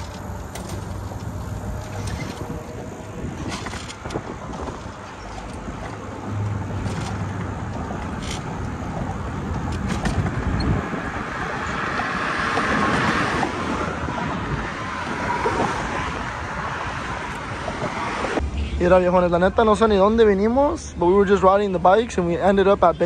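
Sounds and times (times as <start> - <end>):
wind buffeting microphone: 0.0 - 18.8
road traffic passing: 0.0 - 23.0.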